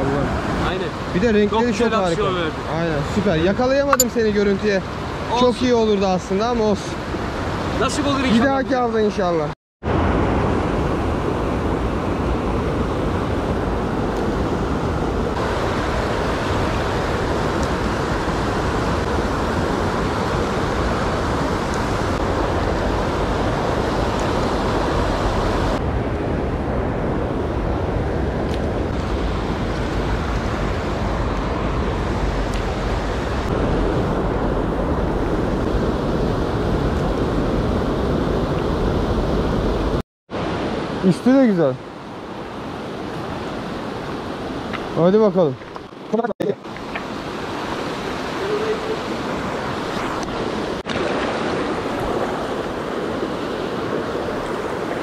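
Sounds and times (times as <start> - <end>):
rushing mountain stream: 0.0 - 25.9, 26.7 - 55.0.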